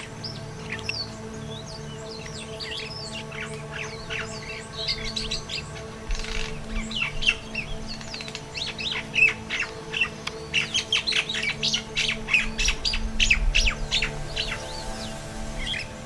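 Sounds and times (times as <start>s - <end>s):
flock of birds chattering: 0.0s - 16.0s.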